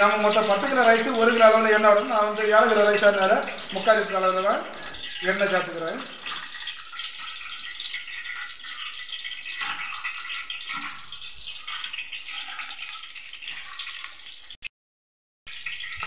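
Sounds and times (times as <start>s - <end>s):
spices sizzling in hot oil: 0.0s - 14.6s, 15.5s - 16.0s.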